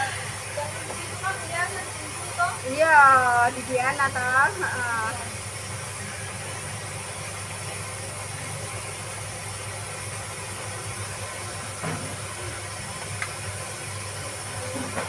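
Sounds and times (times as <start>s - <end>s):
pot steaming hiss: 0.0s - 15.0s.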